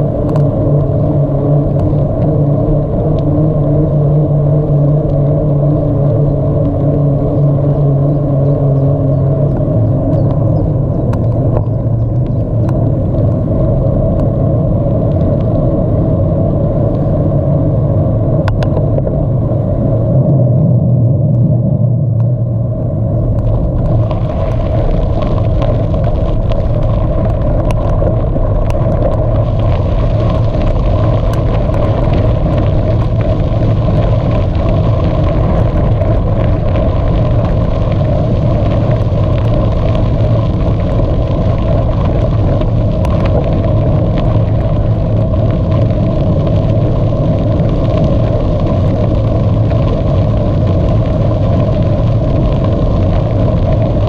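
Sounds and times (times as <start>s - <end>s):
bike rolling noise: 0.0s - 54.0s
wind buffeting microphone: 0.0s - 54.0s.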